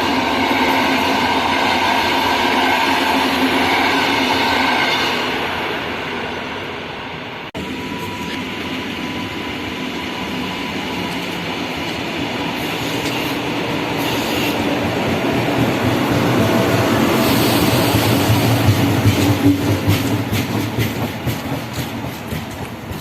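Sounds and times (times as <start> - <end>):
passenger train rumble: 0.0 - 23.0.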